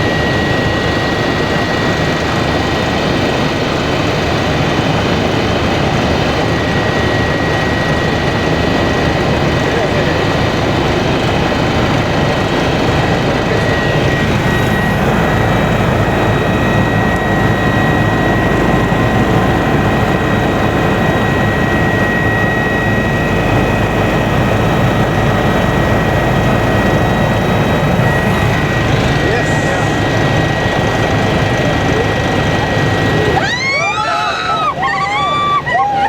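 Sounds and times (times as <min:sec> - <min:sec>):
high-pitched whine: 0:00.0 - 0:35.4
helicopter engine and rotor noise: 0:00.0 - 0:36.0.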